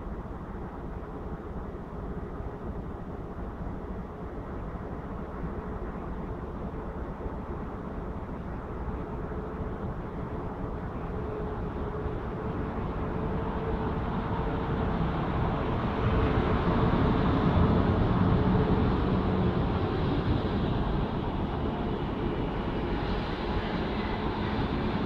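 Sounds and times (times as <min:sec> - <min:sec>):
faint locomotive hum: 0:00.0 - 0:25.0.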